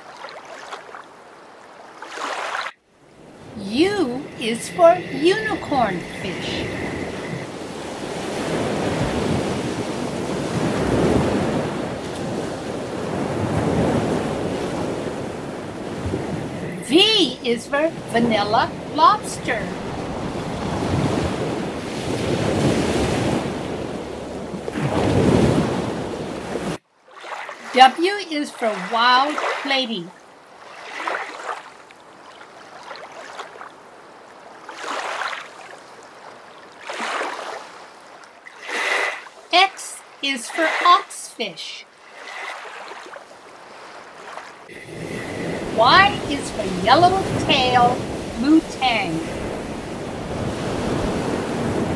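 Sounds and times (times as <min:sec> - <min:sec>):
rushing water like surf: 0:00.0 - 0:51.9.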